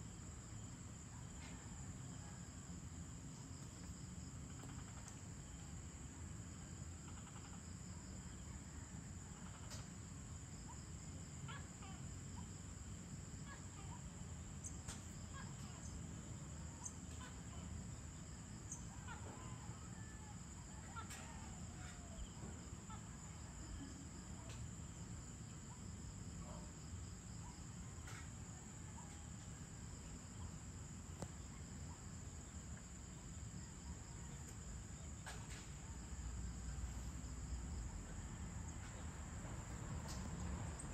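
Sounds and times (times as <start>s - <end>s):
insect chorus trilling: 0.0s - 40.9s.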